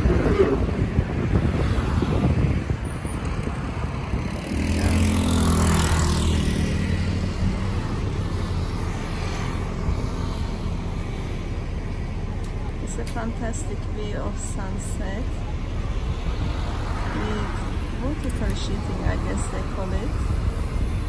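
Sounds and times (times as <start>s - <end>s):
steady traffic rumble: 0.0s - 21.0s
vehicle engine hum: 0.0s - 21.0s.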